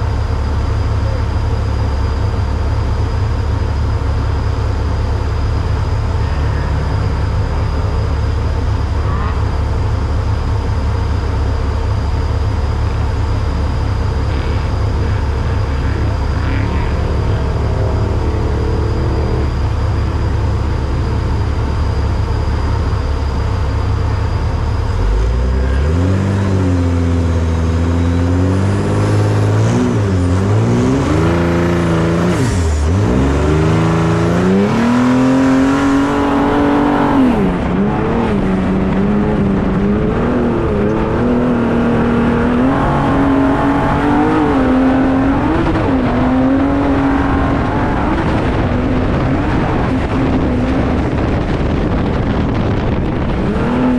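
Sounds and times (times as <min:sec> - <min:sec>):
truck engine revving: 0:00.0 - 0:53.9.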